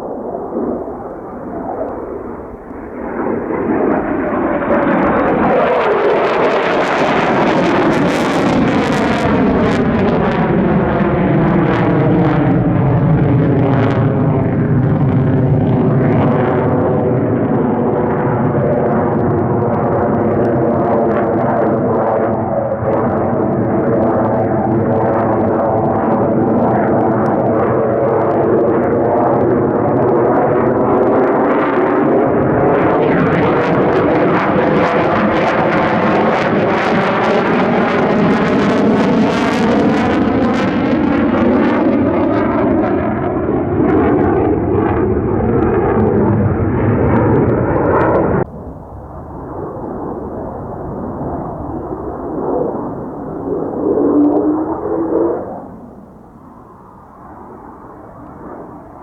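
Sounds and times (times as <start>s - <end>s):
fighter jet passing by: 0.0s - 59.0s.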